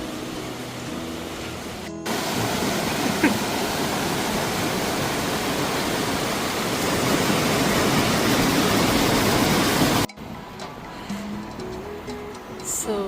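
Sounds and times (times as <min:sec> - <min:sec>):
rushing river water: 0:00.0 - 0:13.0.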